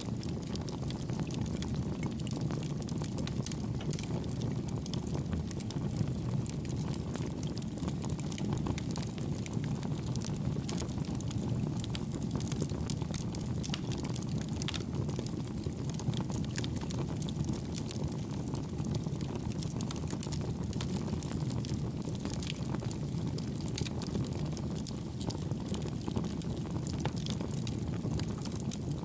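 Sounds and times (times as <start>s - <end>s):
low rumble of flames: 0.0s - 29.0s
wood crackling and popping: 0.0s - 29.0s.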